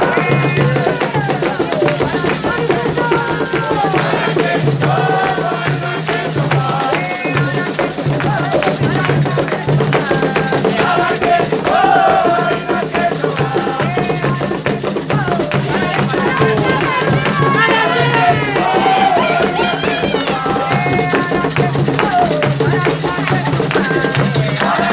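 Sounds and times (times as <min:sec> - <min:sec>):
drums: 0:00.0 - 0:24.9
voices singing a chant: 0:00.0 - 0:24.9.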